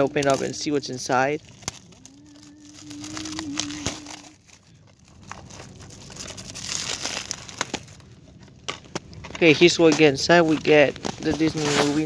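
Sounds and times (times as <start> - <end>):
plastic shrink-wrap crinkling: 0.0 - 12.0.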